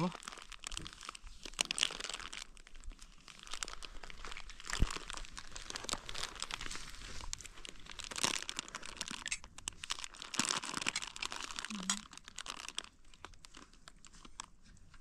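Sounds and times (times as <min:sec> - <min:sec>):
plastic sheeting crinkling: 0:00.0 - 0:15.0.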